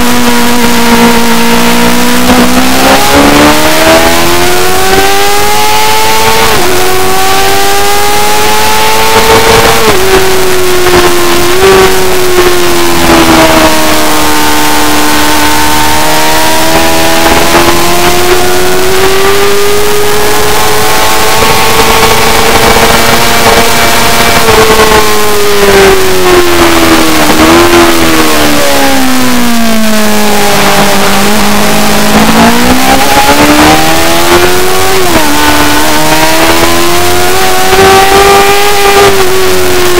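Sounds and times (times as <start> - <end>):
superbike engine racing: 0.0 - 39.9.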